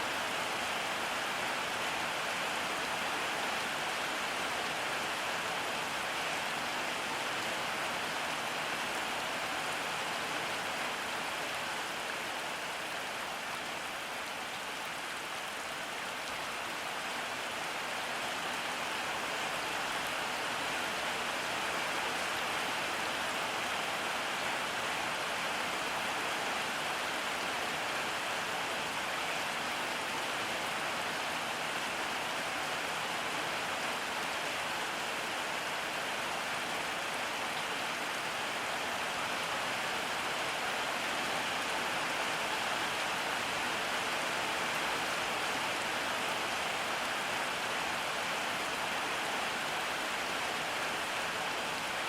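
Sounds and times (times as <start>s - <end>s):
steady rain hissing: 0.0s - 52.0s.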